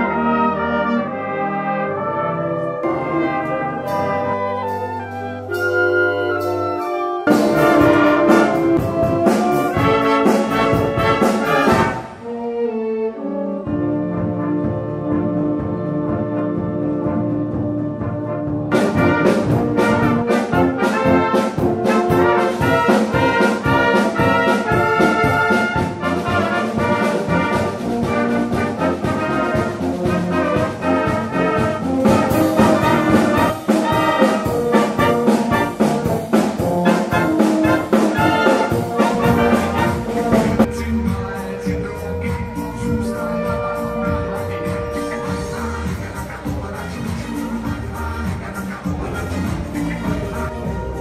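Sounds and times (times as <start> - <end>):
wind band playing: 0.0 - 51.0.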